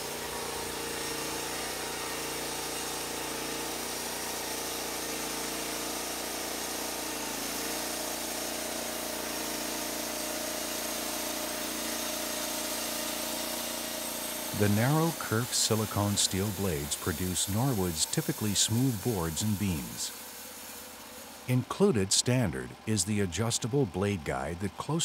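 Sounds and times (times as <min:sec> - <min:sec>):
sawmill engine running: 0:00.0 - 0:25.0.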